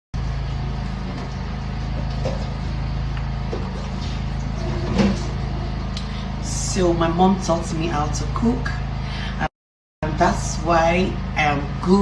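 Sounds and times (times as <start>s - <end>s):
low motor hum: 0.2s - 12.0s.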